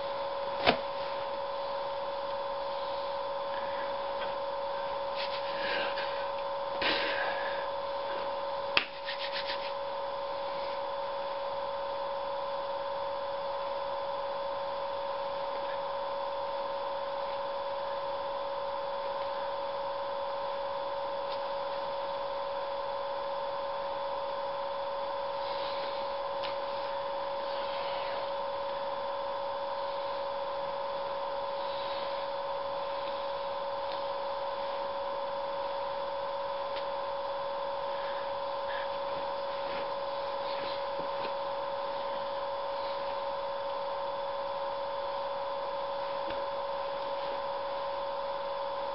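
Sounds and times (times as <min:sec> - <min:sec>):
electrical hum and hiss: 0:00.0 - 0:48.9.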